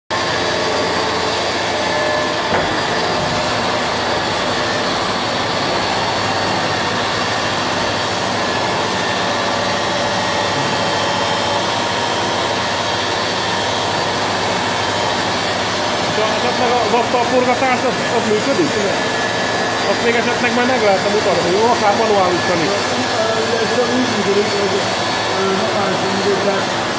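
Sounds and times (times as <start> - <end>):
machining centre whirring: 0.1 - 26.9.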